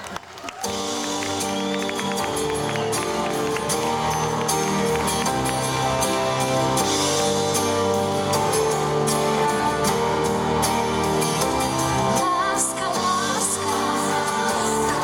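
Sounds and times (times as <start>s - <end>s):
electric guitar: 0.6s - 15.0s
keyboard: 0.6s - 15.0s
acoustic guitar: 0.7s - 15.0s.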